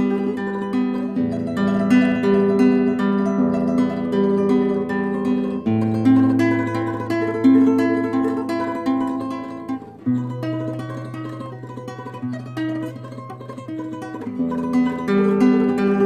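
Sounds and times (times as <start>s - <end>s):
classical guitar fingerstyle: 0.0s - 16.0s.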